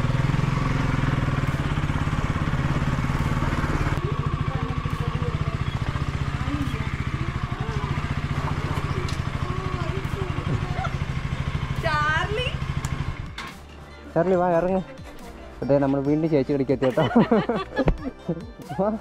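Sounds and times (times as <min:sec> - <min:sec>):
vehicle engine running: 0:00.0 - 0:18.3.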